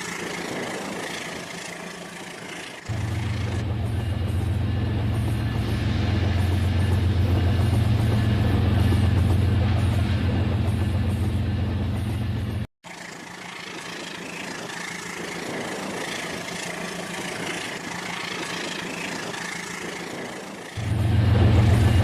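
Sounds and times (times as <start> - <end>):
model train low hum: 0.0 - 22.0
train rattling on track: 0.0 - 22.0.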